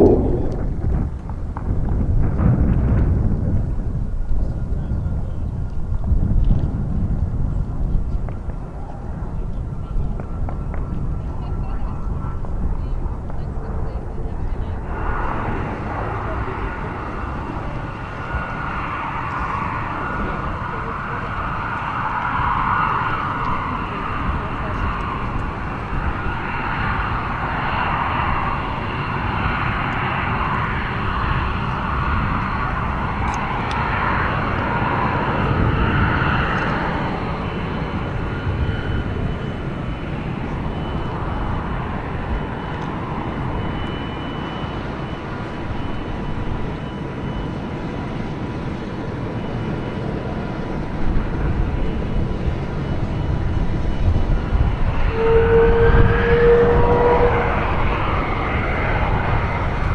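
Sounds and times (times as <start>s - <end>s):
airplane engine drone: 0.0s - 59.9s.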